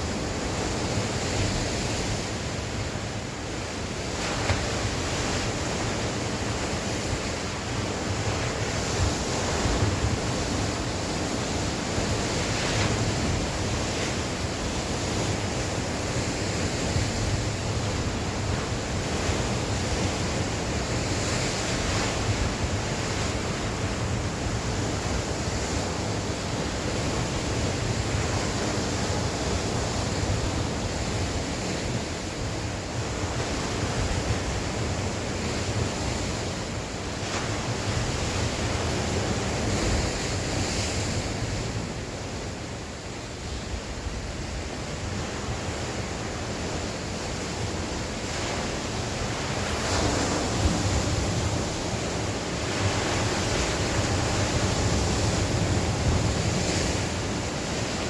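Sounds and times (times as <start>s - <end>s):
sea waves breaking on shore: 0.0s - 58.0s
wind gusting across microphone: 0.0s - 58.0s.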